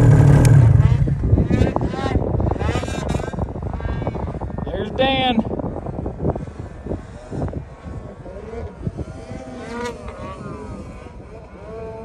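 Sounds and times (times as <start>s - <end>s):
distant snowmobile engines revving: 0.0s - 12.0s.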